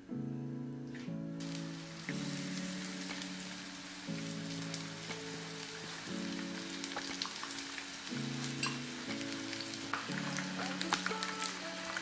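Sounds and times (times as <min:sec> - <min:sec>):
background music of held chords: 0:00.0 - 0:12.0
chicken frying in oil: 0:01.4 - 0:12.0.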